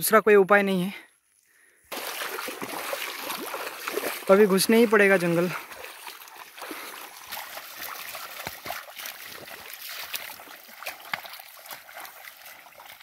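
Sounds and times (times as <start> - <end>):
feet wading through muddy water: 1.2 - 13.0.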